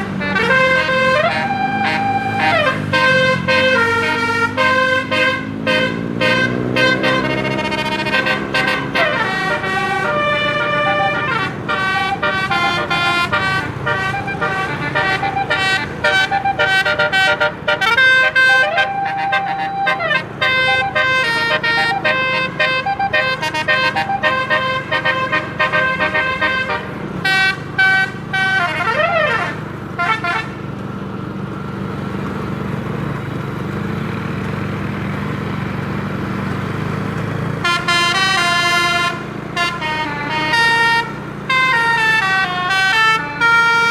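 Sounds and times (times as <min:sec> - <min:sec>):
bus multi-tone air horn tune: 0:00.0 - 0:31.0, 0:37.4 - 0:43.9
bus engine running: 0:00.0 - 0:43.9.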